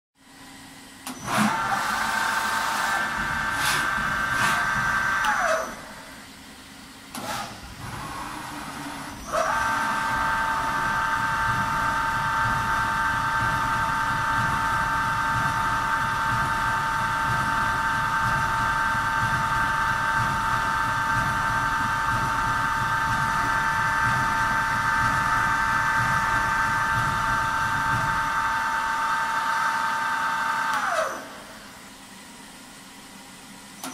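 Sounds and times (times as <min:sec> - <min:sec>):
machine electric whine: 0:01.0 - 0:32.3.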